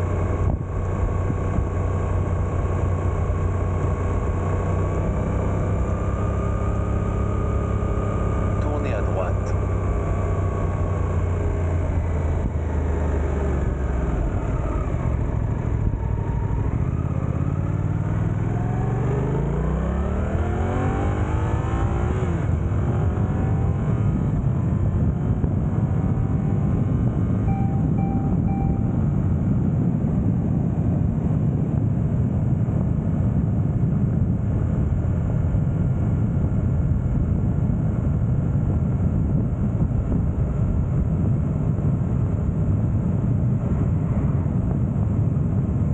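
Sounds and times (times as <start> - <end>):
wind rushing on microphone: 0.0 - 3.5, 11.3 - 45.9
motorcycle engine accelerating: 0.0 - 45.9
road noise: 0.0 - 45.9.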